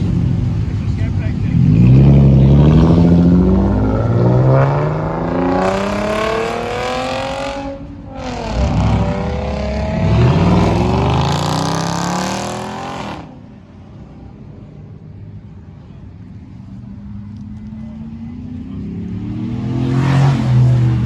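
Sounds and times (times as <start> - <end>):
car engine accelerating hard: 0.0 - 14.3, 17.3 - 21.0.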